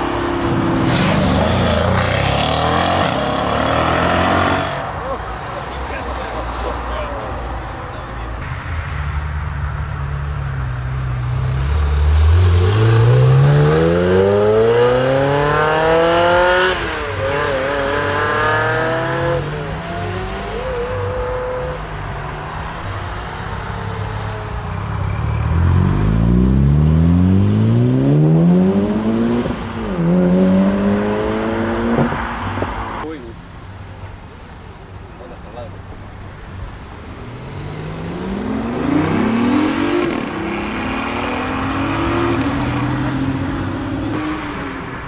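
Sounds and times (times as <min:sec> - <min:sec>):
car engine accelerating hard: 0:00.0 - 0:33.1, 0:36.6 - 0:45.0.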